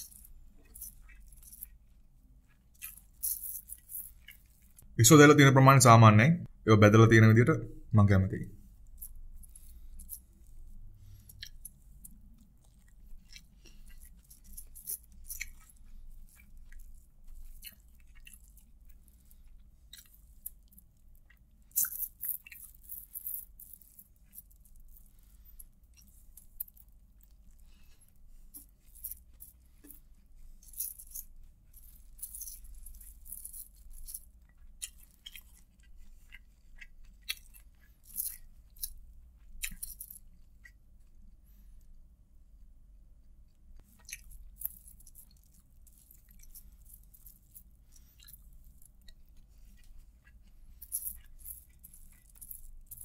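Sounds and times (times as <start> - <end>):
chewing: 0.0 - 4.9, 8.8 - 41.3, 43.8 - 53.0.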